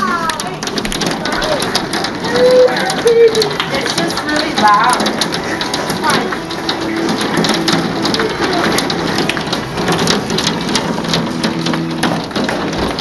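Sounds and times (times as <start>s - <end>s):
hail clattering: 0.0s - 13.0s.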